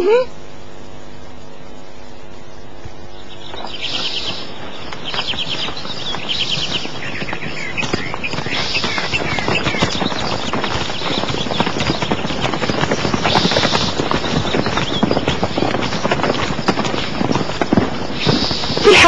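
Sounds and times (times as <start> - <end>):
birds chirping: 0.0 - 19.0
footsteps of people walking: 2.8 - 19.0.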